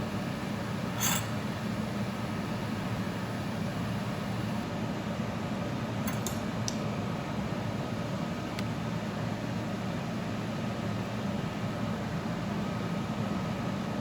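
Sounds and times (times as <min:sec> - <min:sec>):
mechanical hum of appliance: 0:00.0 - 0:14.0.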